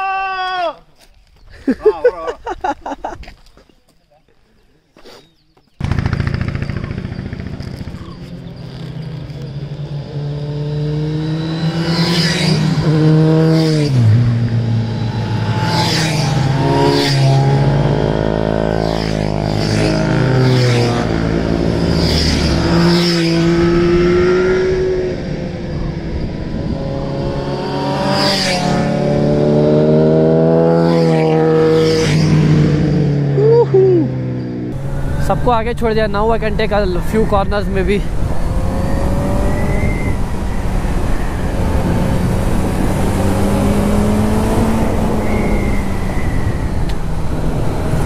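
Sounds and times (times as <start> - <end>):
motorcycle engines revving: 5.3 - 48.0.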